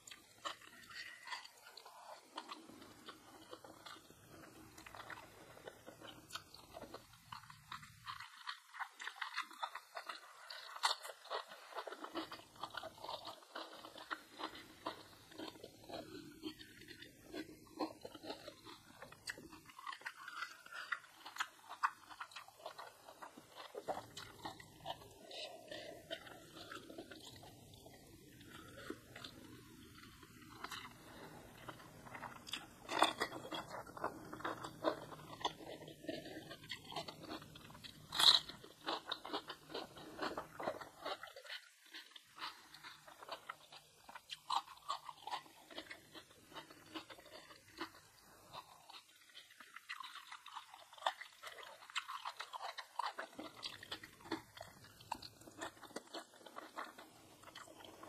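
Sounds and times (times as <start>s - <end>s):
person chewing and crunching: 0.0s - 58.0s.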